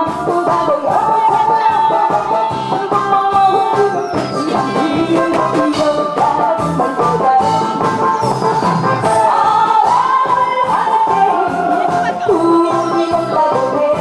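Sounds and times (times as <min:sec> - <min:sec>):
instrumental music with steady beat: 0:00.0 - 0:14.0
person singing into a microphone: 0:00.0 - 0:14.0.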